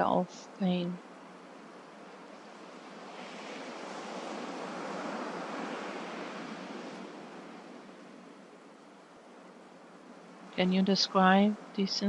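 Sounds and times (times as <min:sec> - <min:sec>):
gentle sea waves washing in: 0:00.4 - 0:11.8.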